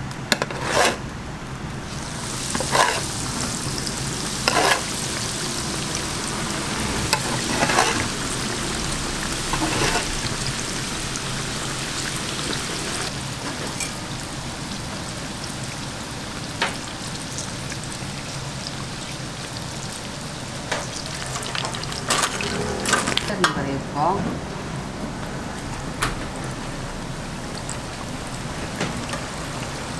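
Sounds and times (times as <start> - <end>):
croquettes deep-frying in oil: 1.7 - 23.3, 26.3 - 29.9.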